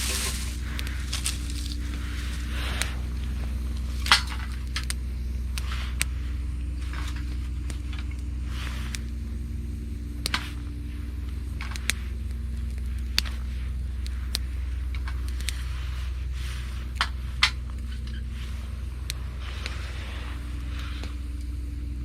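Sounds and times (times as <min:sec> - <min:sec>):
campfire popping and cracking: 0:00.0 - 0:22.0
steady low hum: 0:00.0 - 0:22.0.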